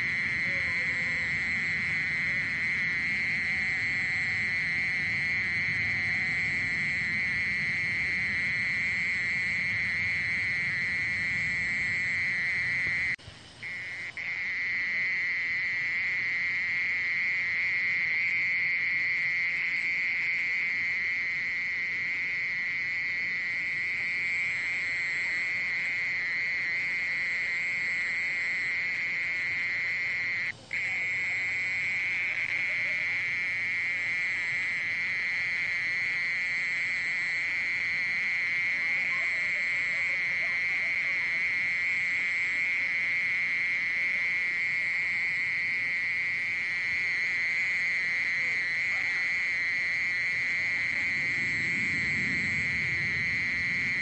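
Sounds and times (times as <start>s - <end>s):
mole cricket buzzing trill: 0.0s - 54.0s.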